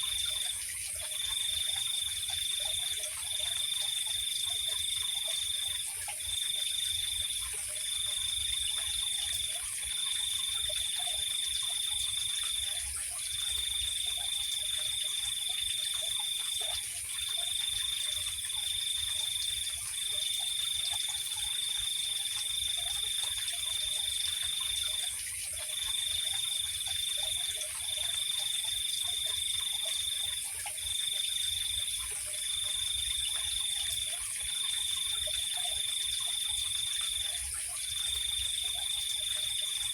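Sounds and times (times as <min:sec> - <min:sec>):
faint low insect calls: 0:00.0 - 0:39.9.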